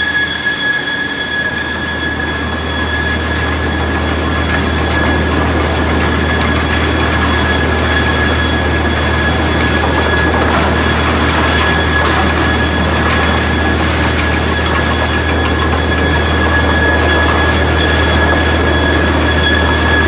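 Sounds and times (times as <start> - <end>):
planer machine running: 1.6 - 20.0.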